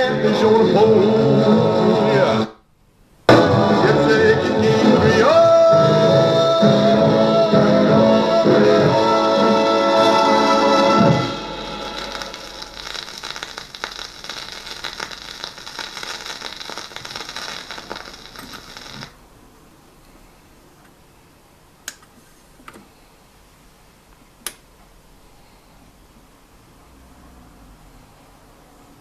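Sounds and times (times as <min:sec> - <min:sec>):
record surface hiss and crackle: 0:00.0 - 0:29.0.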